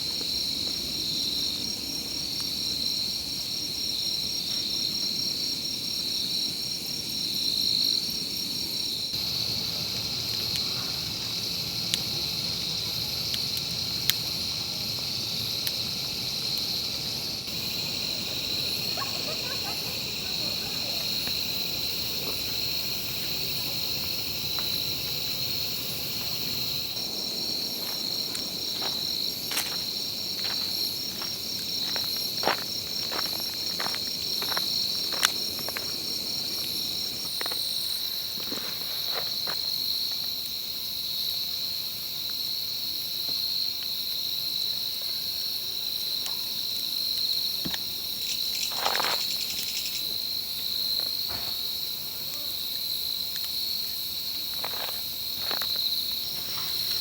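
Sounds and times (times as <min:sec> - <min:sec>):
insects chirping chorus: 0:00.0 - 0:57.0.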